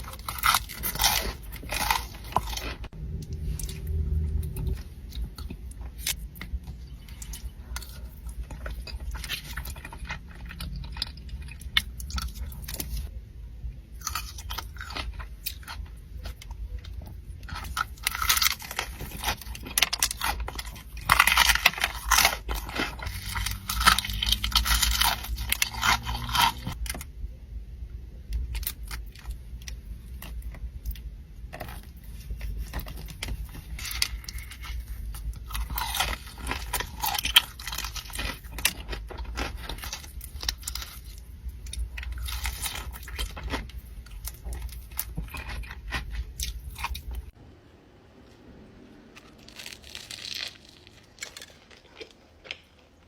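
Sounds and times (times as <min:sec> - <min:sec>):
crunching and chewing crisp food: 0:00.0 - 0:27.1, 0:28.2 - 0:47.4, 0:48.8 - 0:53.0.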